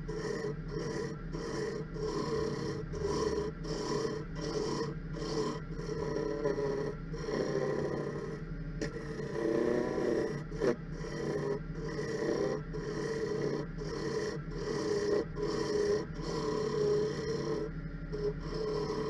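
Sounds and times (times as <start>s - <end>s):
gouge scraping spinning wood bowl: 0.0s - 19.0s
lathe humming: 0.0s - 19.0s.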